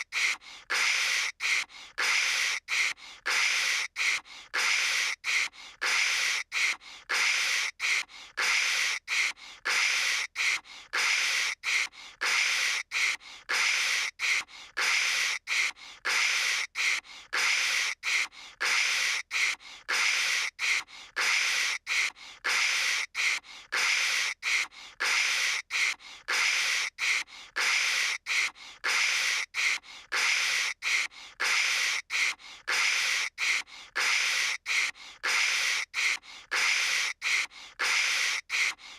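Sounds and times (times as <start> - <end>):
girl making hissing static noises: 0.0 - 38.9.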